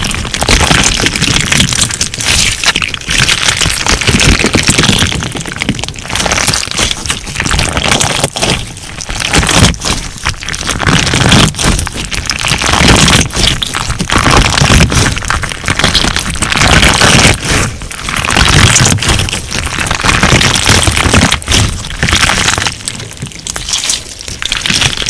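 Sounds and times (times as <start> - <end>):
crunchy slime crackling: 0.0 - 25.0.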